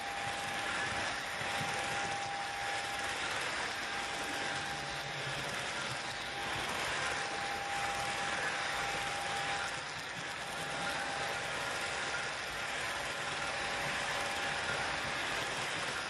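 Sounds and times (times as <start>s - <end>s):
model train wheels rolling on rails: 0.0s - 16.0s.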